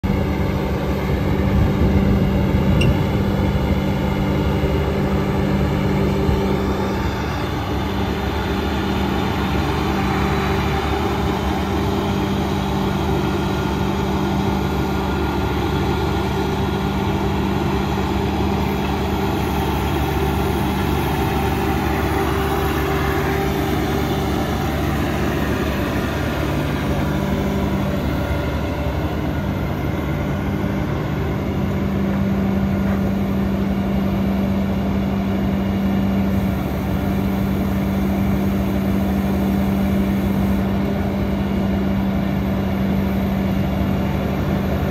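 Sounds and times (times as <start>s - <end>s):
diesel engine humming: 0.0s - 44.9s.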